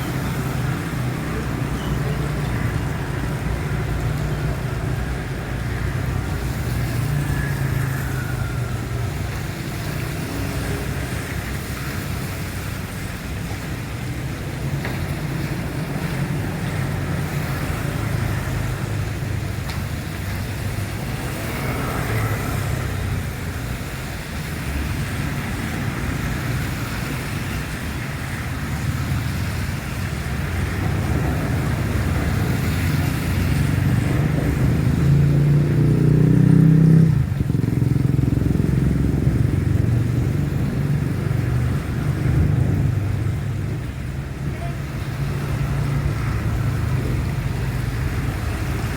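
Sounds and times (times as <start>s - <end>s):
rain and tyres hissing on wet road: 0.0s - 48.9s
vehicle engines running: 0.0s - 48.9s.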